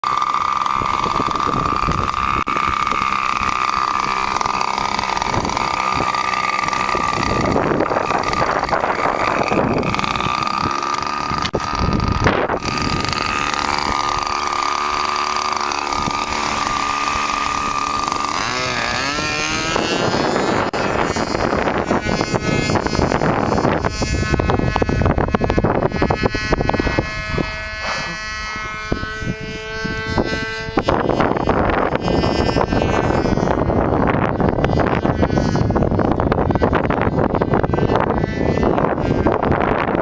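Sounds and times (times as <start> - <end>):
model airplane engine whining: 0.0 - 40.0.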